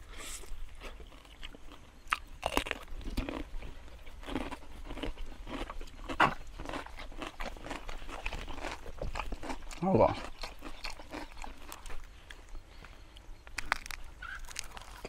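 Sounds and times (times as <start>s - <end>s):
person chewing with crunching: 0.0s - 15.0s.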